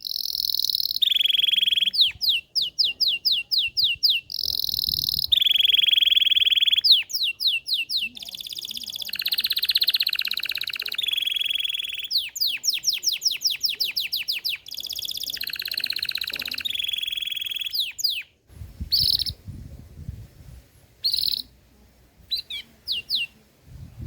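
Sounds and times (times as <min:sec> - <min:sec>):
short bird chirps: 0:00.0 - 0:18.3, 0:18.9 - 0:19.4, 0:21.0 - 0:21.5, 0:22.3 - 0:23.4.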